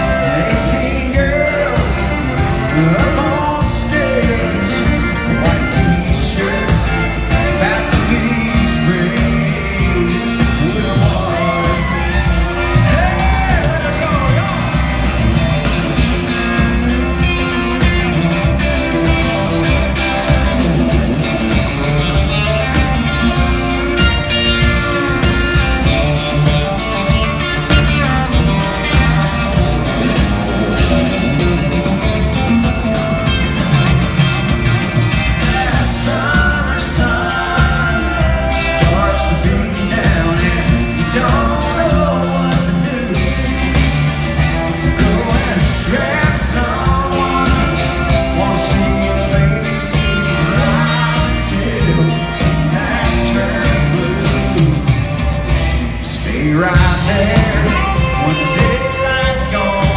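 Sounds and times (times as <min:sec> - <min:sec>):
man singing: 0:00.0 - 0:34.0, 0:35.3 - 0:55.1, 0:55.9 - 0:59.9
drums: 0:00.0 - 0:59.9
electric guitar: 0:00.0 - 0:59.9
low bass: 0:00.0 - 0:59.9.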